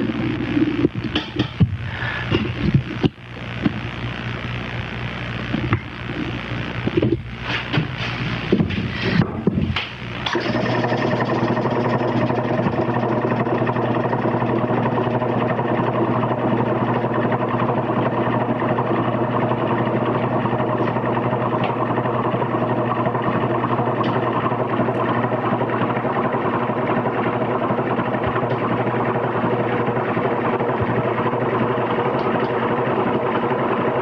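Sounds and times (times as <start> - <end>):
steady motor hum: 0.0 - 34.0.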